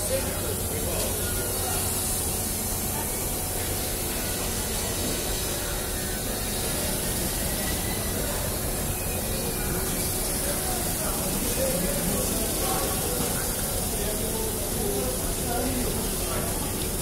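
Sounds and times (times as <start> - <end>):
crowd hubbub: 0.0 - 17.0.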